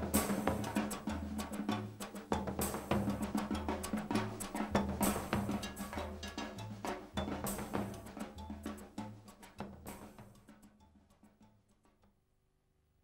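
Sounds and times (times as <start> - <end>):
percussion band drumming: 0.0 - 11.4.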